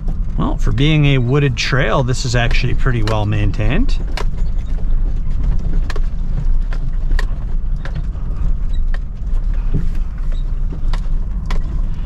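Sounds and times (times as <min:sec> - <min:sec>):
knocks and rattles over bumps: 0:00.0 - 0:12.0
truck engine and tyres rumbling: 0:00.0 - 0:12.0.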